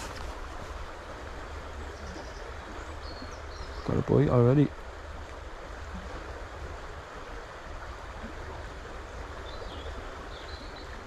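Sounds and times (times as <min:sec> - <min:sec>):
stream running water: 0:00.0 - 0:11.0.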